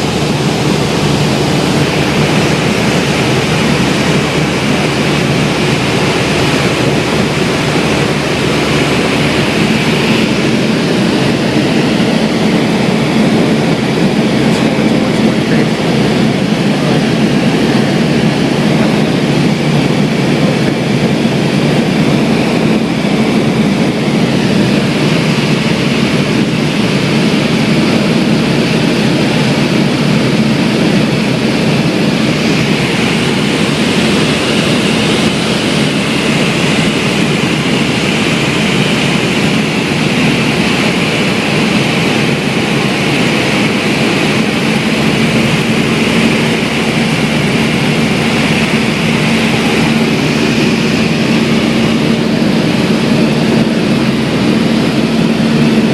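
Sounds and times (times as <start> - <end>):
airplane engine and propeller drone: 0.0 - 55.9.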